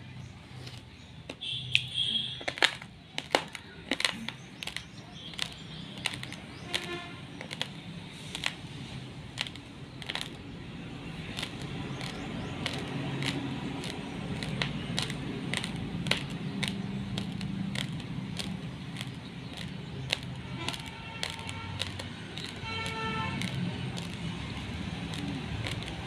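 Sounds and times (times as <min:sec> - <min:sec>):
rice grains crunched between teeth: 0:00.6 - 0:08.6, 0:09.3 - 0:10.5, 0:11.2 - 0:26.0.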